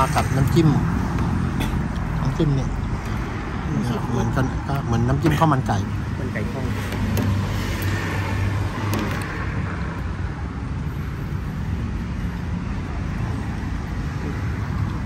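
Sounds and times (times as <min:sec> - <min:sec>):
traffic and engine noise: 0:00.0 - 0:15.0.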